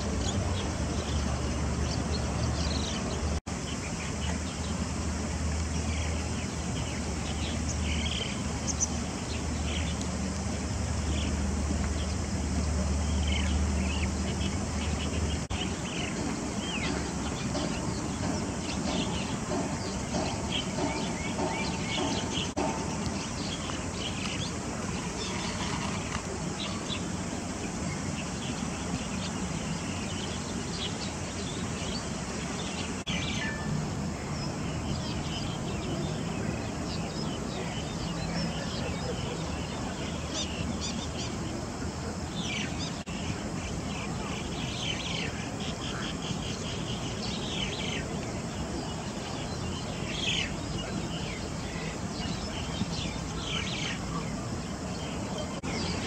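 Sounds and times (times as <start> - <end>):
small birds chirping: 0.0 - 56.0
stream hissing: 0.0 - 56.0.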